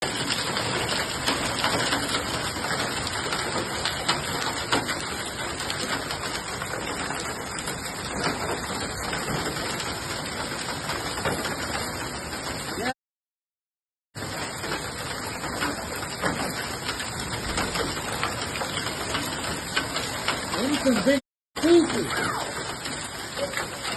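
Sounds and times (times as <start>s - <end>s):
hailstones striking hard surfaces: 0.0s - 12.8s, 14.2s - 23.9s.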